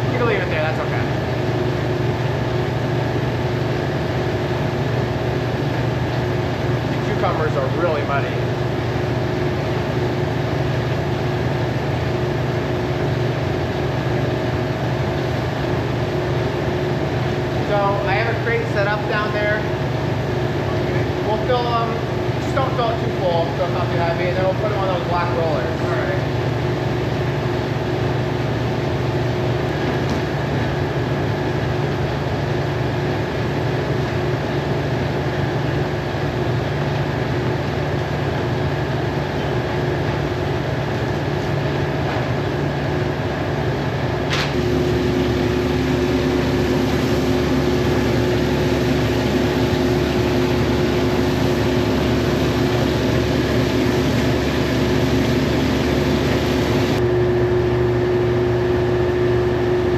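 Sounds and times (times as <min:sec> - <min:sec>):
machinery humming: 0:00.0 - 0:59.9.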